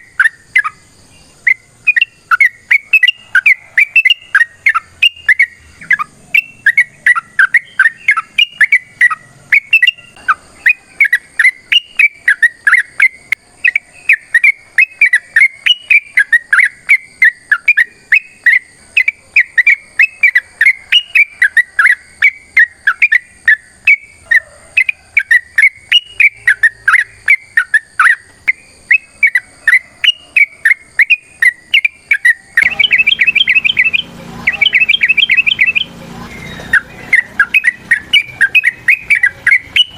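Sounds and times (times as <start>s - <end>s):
background hiss: 0.0s - 39.9s
bird singing bubbly whistles: 1.4s - 24.2s, 24.8s - 39.9s.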